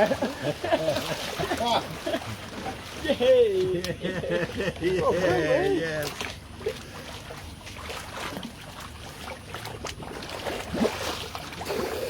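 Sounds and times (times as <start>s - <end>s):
small splashes and knocks: 0.0s - 4.9s, 5.6s - 12.0s
water lapping and sloshing: 0.0s - 12.0s.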